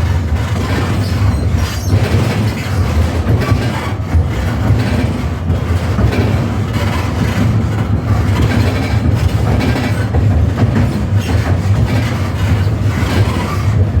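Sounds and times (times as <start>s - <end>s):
tram car creaking and squeaking: 0.0s - 14.0s
tram rumbling on rails: 0.0s - 14.0s.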